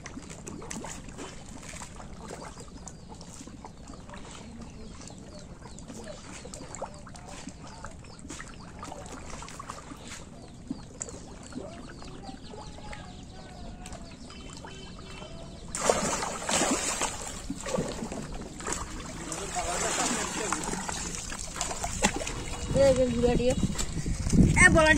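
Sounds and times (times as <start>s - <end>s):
water splashing: 0.0s - 24.9s.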